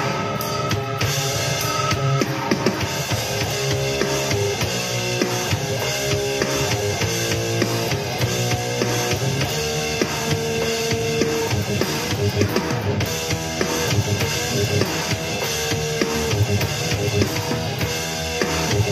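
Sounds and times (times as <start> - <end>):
heavy metal music: 0.0 - 18.9.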